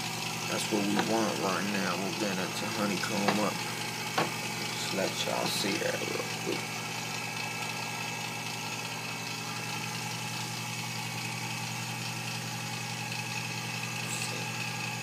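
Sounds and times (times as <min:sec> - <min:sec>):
vacuum pump humming: 0:00.0 - 0:15.0.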